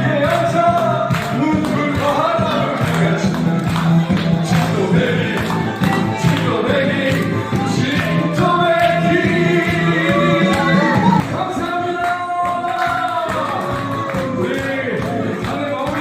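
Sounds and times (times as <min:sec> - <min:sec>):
loud accompaniment with beat: 0:00.0 - 0:16.0
man singing: 0:00.0 - 0:16.0.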